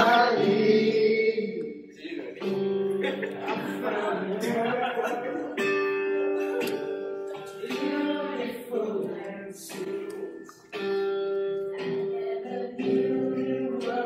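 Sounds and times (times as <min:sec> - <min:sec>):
song with sung notes: 0:00.0 - 0:02.6, 0:03.2 - 0:14.0
guitar: 0:00.0 - 0:14.0.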